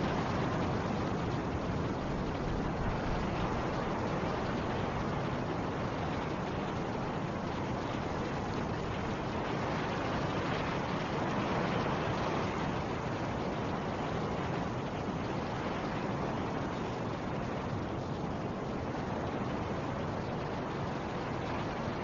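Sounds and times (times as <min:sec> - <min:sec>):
snowstorm wind blowing: 0:00.0 - 0:22.0.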